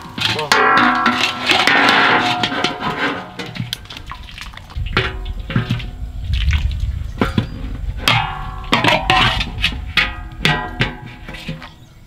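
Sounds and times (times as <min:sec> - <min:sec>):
water splashing in a metal basin: 0:00.0 - 0:11.7.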